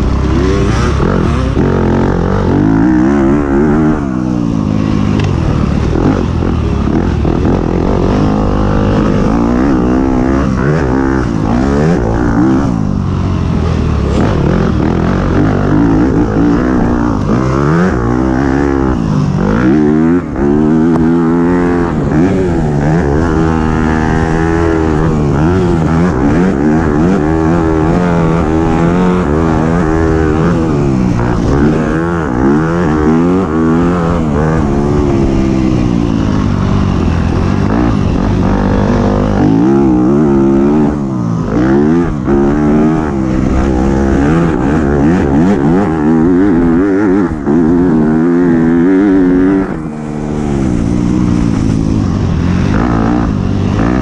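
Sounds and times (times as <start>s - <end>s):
racing engine revving: 0.0s - 54.0s.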